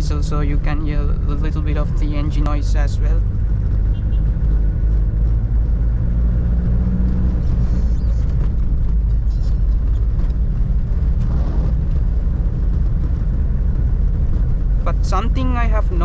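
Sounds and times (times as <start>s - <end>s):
diesel engine running: 0.0s - 16.0s
road and tyre rumble: 0.0s - 16.0s.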